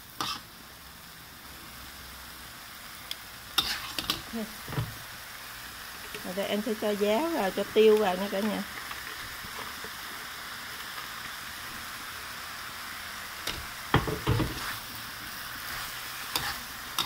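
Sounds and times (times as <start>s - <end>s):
stir-fry sizzling in a wok: 0.0s - 17.0s.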